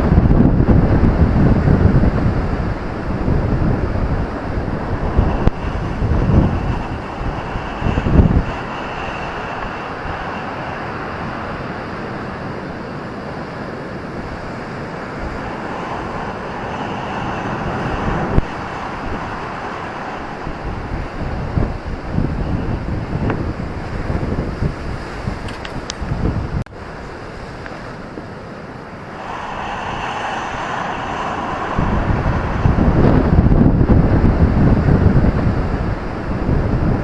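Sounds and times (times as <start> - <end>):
ocean surf washing: 0.0 - 37.0
wind buffeting microphone: 0.0 - 37.0.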